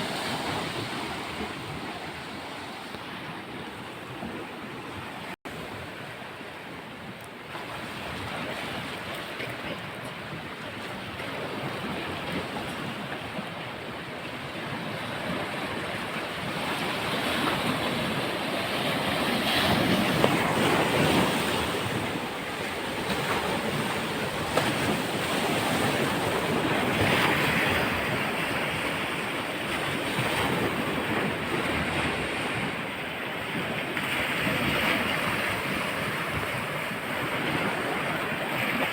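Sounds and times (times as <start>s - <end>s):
surf washing onto beach: 7.5s - 38.9s.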